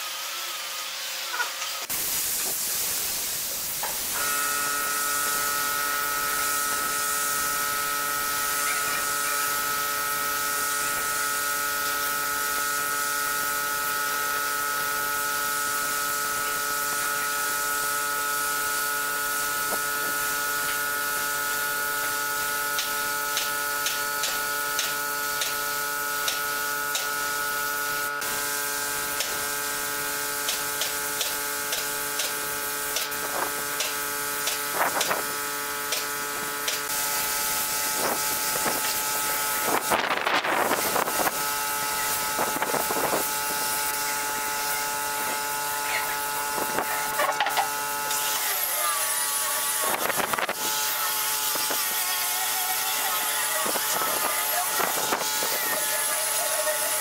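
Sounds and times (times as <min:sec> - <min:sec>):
spray gun hissing: 0:01.3 - 0:57.0
machine hum: 0:01.8 - 0:56.9.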